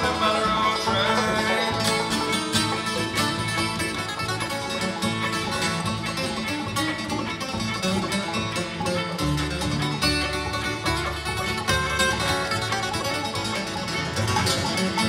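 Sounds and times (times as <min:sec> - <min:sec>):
acoustic guitar: 0:00.0 - 0:15.0
banjo: 0:00.0 - 0:15.0
fiddle: 0:00.0 - 0:15.0
upright bass: 0:00.0 - 0:15.0.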